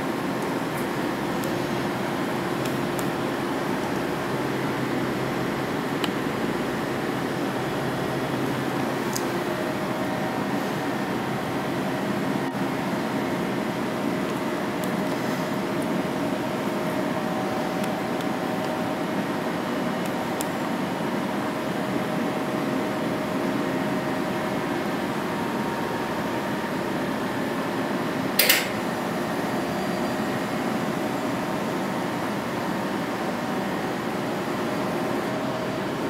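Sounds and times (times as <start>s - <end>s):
vending machine hum: 0.0s - 36.0s.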